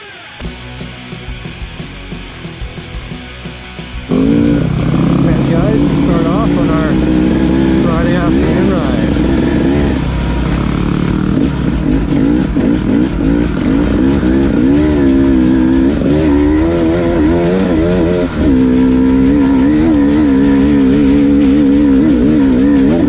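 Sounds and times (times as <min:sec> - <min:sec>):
dirt bike engine revving: 0:03.9 - 0:23.0.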